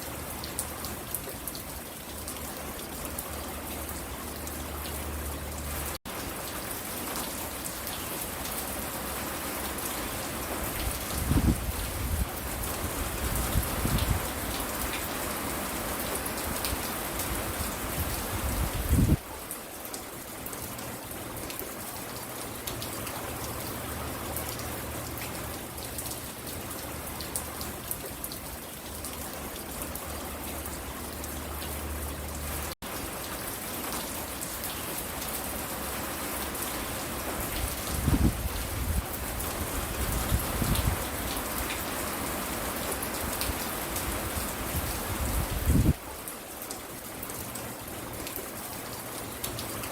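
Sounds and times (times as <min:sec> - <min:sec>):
rain spattering on porch: 0:00.0 - 0:49.9.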